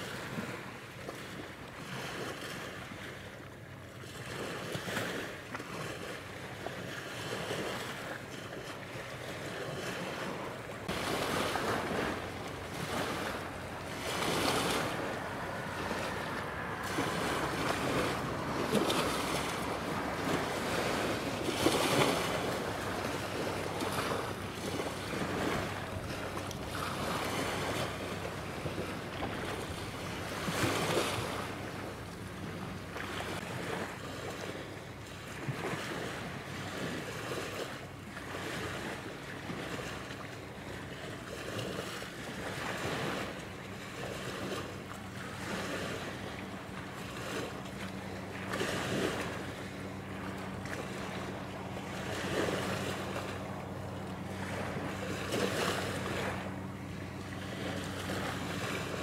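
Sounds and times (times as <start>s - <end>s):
ship engine low hum: 0.0s - 59.0s
small waves washing ashore: 0.0s - 59.0s.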